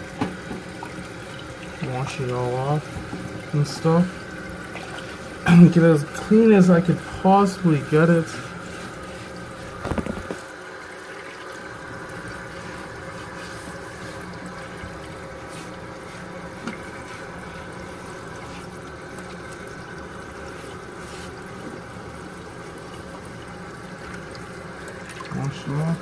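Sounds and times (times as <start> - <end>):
water running into toilet tank: 0.0 - 26.0.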